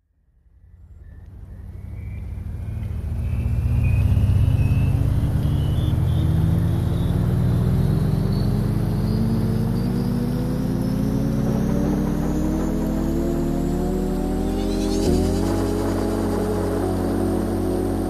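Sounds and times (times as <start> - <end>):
vehicle engine rumble: 0.2 - 18.0
high whine rising in pitch: 0.5 - 18.0.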